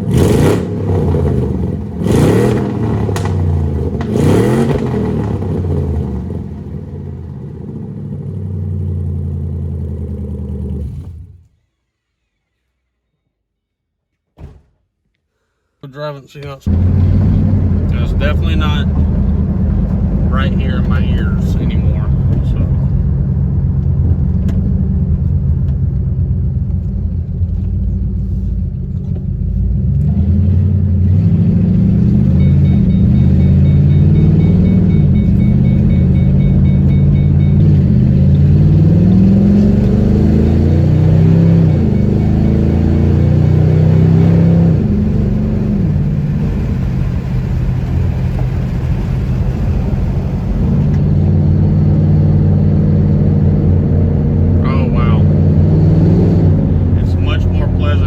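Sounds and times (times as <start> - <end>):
car engine rumbling through exhaust: 0.0 - 11.5, 16.6 - 58.0.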